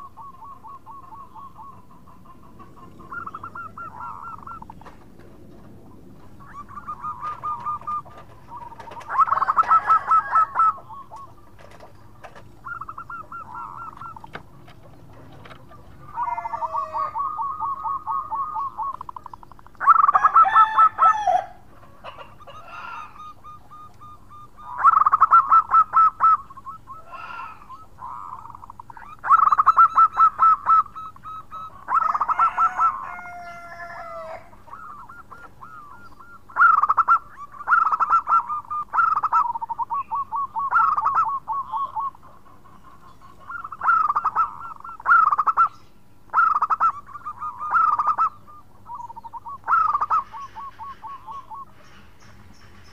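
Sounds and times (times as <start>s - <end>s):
dove trilling coos: 0.0s - 52.9s.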